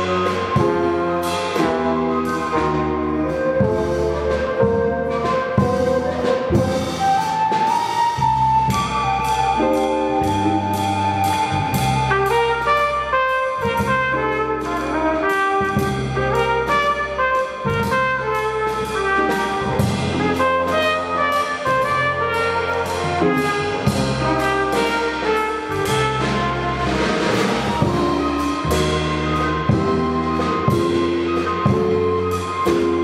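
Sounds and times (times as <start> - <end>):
jazz band playing: 0.0 - 33.0.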